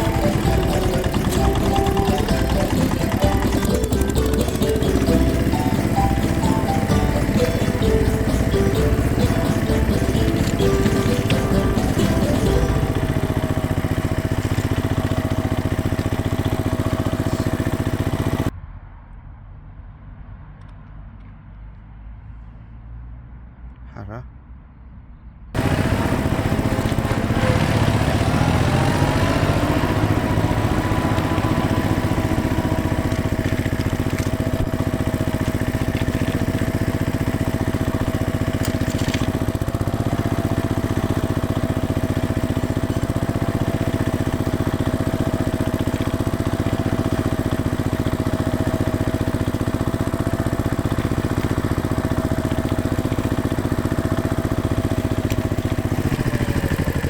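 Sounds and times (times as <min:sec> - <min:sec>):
engine running: 0:00.0 - 0:18.5, 0:25.6 - 0:57.0.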